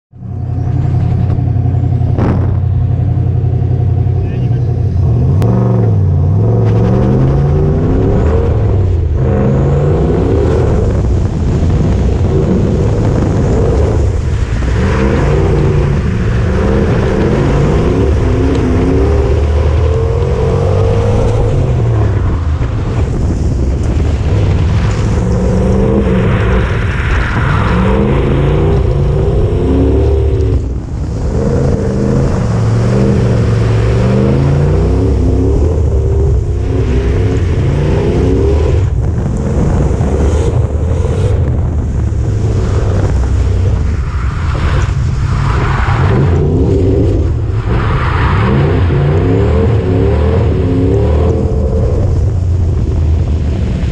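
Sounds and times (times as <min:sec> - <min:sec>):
car engine revving hard: 0:00.3 - 0:53.9.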